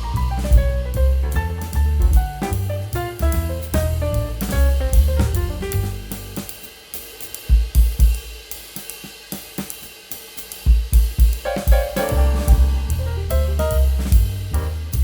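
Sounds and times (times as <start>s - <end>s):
drum break: 0.0s - 15.0s.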